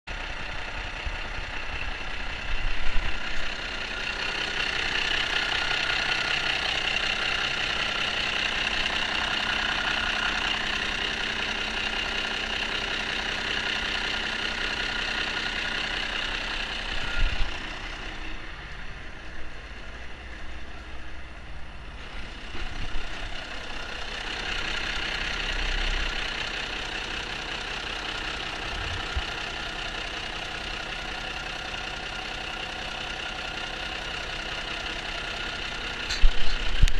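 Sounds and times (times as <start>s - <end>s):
diesel engine idling with clatter: 0.0s - 36.9s.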